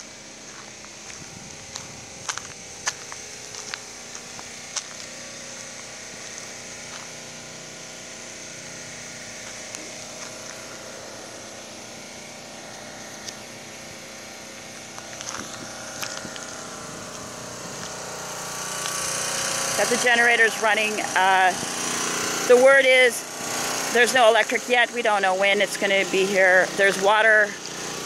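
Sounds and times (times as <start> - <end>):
generator engine humming: 0.0 - 28.0.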